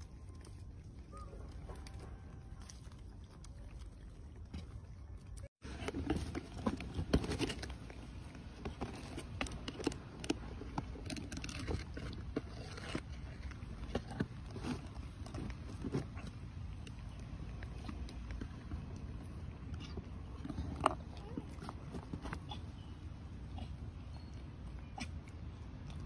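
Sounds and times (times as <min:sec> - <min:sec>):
monkey chewing food: 0:00.0 - 0:26.0.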